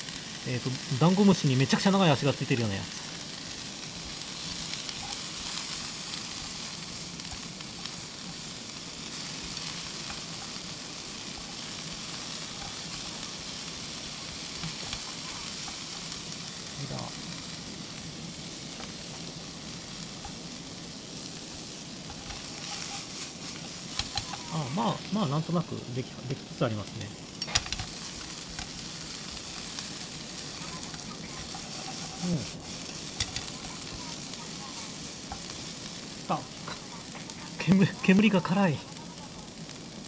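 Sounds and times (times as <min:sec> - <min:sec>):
food sizzling in a frying pan: 0:00.0 - 0:40.0
chopsticks stirring food: 0:00.2 - 0:38.9.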